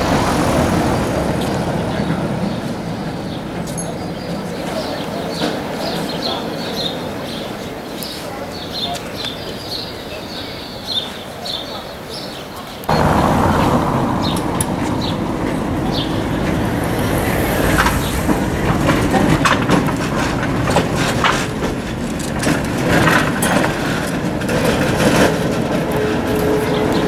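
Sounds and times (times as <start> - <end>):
tram rumbling on rails: 0.0 - 27.0
wheels clicking over track: 0.0 - 27.0.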